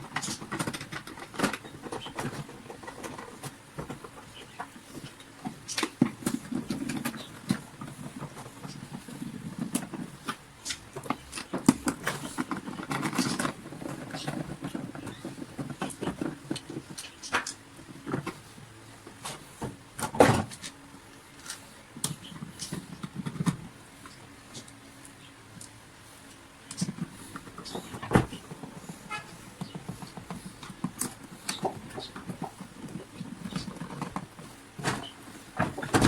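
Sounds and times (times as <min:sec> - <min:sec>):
plastic parts clicking and knocking: 0:00.0 - 0:18.4, 0:21.4 - 0:25.8, 0:26.6 - 0:36.0.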